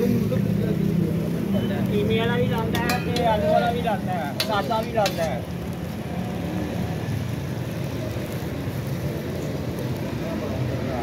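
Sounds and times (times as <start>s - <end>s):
flatbread frying on griddle: 0.0s - 11.0s.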